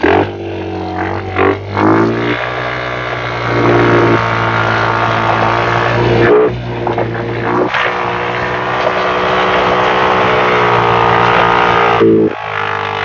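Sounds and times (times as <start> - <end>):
small atv engine revving: 0.0 - 13.0.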